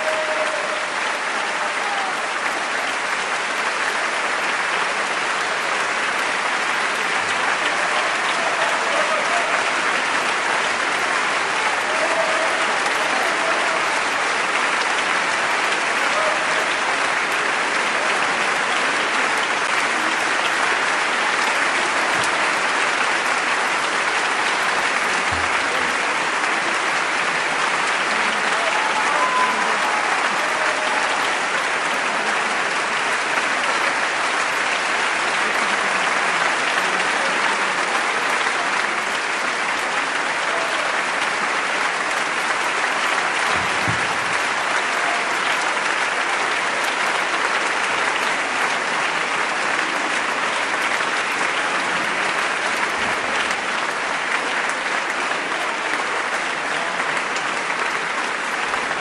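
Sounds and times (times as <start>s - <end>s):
audience applauding: 0.0s - 59.0s.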